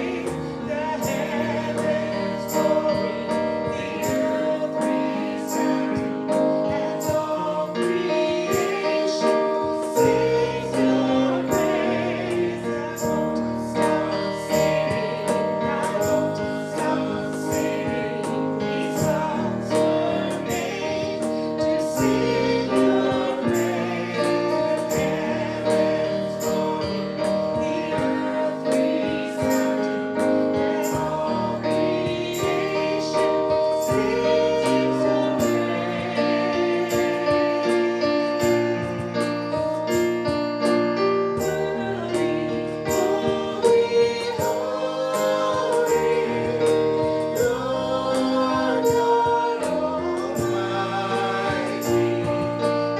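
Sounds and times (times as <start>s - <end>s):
instrumental accompaniment with beat: 0.0s - 52.9s
voices singing together: 0.0s - 52.9s.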